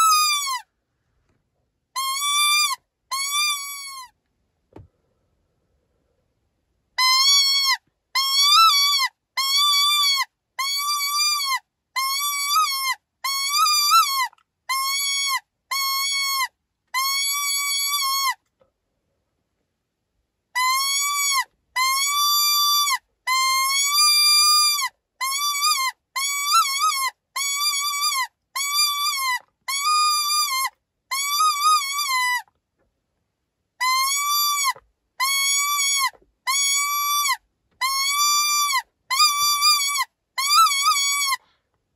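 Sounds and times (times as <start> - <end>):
high wailing animal distress cries: 0.0 - 0.7, 2.0 - 4.1, 7.0 - 18.4, 20.6 - 32.5, 33.8 - 41.4.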